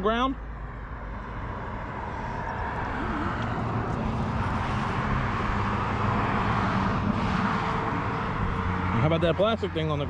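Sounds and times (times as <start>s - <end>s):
vehicle engine on road: 0.0s - 10.0s.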